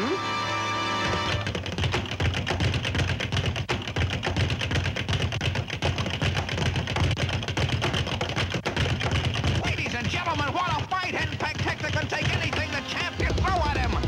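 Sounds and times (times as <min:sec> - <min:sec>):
rapid cartoon punch thuds: 0:01.1 - 0:14.0.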